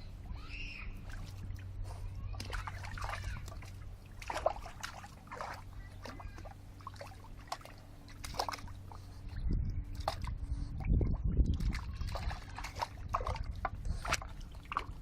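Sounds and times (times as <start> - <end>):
water splashing in bird bath: 0.4 - 9.1, 9.9 - 15.0.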